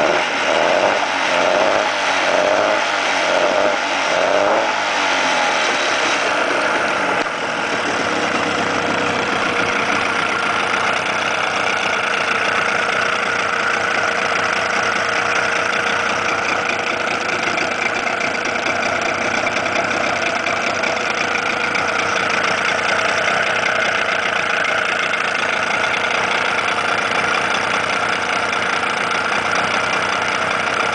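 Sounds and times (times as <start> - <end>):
outboard motor idling: 5.5 - 30.9.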